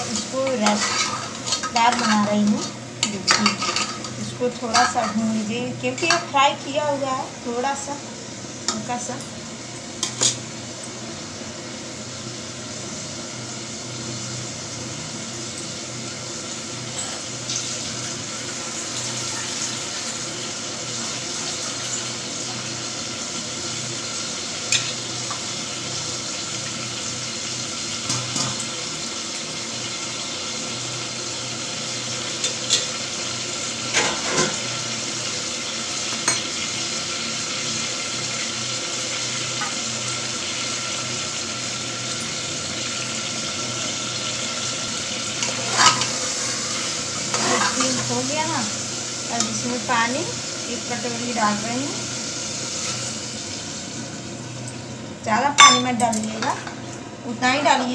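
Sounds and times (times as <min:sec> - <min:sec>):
vegetables sizzling in a pot: 0:00.0 - 0:57.9.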